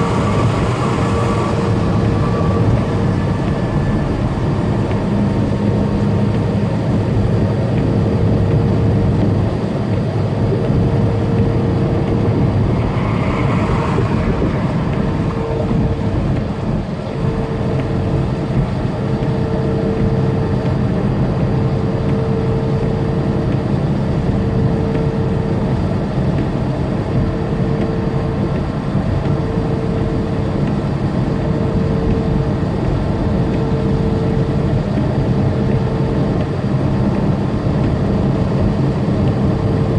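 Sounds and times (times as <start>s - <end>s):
steady whine: 0.0s - 39.9s
truck engine and road noise: 0.0s - 39.9s.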